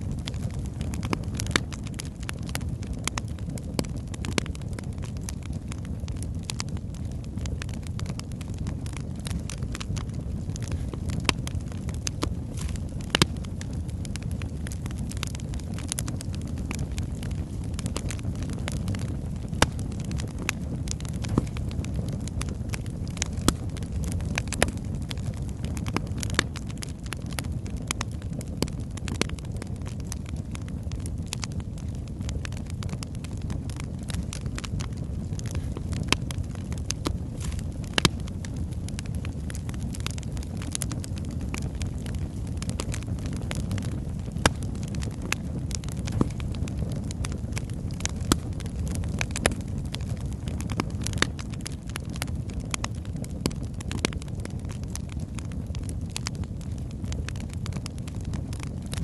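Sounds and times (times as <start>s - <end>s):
fire crackling and popping: 0.0s - 59.0s
low rumble of flame: 0.0s - 59.0s.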